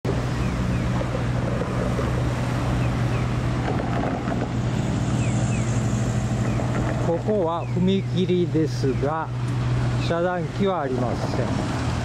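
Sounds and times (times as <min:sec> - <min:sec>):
road traffic noise: 0:00.0 - 0:12.0
wind rumbling on microphone: 0:00.0 - 0:12.0.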